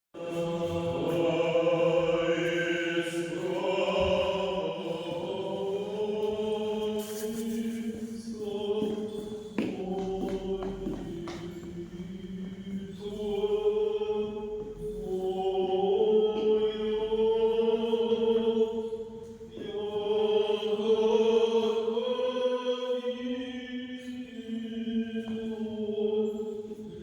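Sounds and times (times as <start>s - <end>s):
voices singing a church chant: 0.2s - 27.0s.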